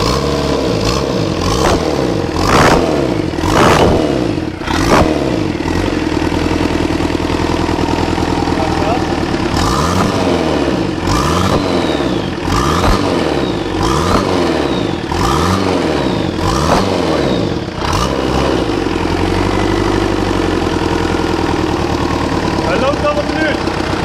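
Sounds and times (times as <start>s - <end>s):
diesel engine revving and idling: 0.0s - 24.0s.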